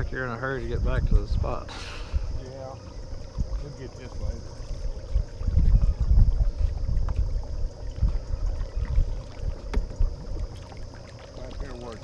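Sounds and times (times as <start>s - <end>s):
wind buffeting microphone: 0.0s - 10.6s
boat under way on water: 0.0s - 12.0s
faint steady hum: 0.0s - 12.0s.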